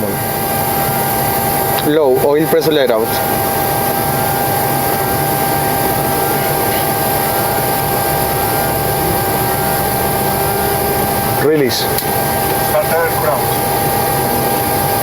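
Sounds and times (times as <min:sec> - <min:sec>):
jet engine spooling up: 0:00.0 - 0:15.0
rising whining tones: 0:00.4 - 0:15.0.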